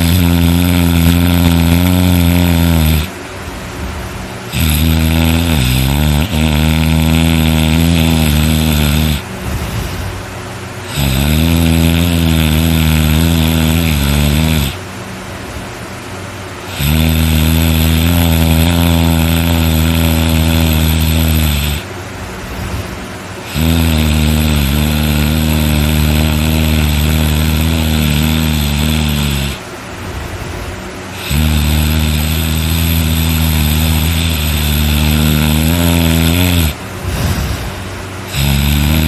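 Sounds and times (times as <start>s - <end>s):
person snoring loudly: 0.0s - 3.2s, 4.5s - 10.2s, 10.8s - 14.8s, 16.6s - 21.9s, 22.5s - 29.6s, 31.1s - 39.0s.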